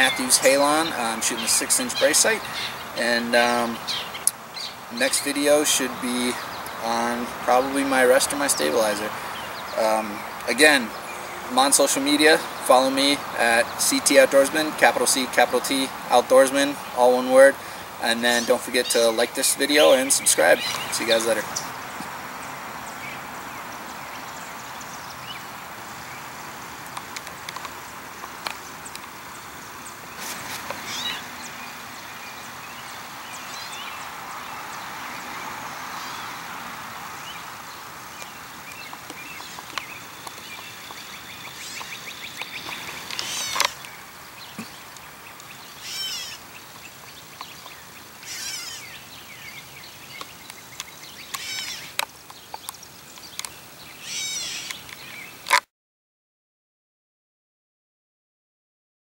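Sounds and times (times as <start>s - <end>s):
steady background hiss: 0.0s - 55.5s
birds chirping: 0.0s - 55.6s.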